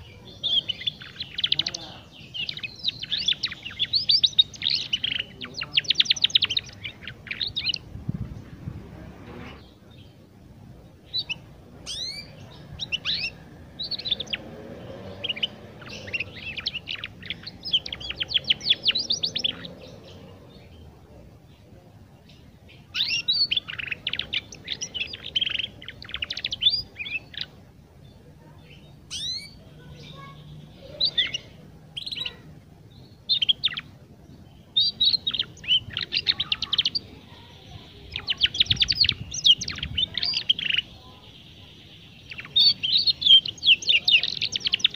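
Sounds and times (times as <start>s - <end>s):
canary chirping and trilling: 0.0s - 10.2s, 11.0s - 44.9s.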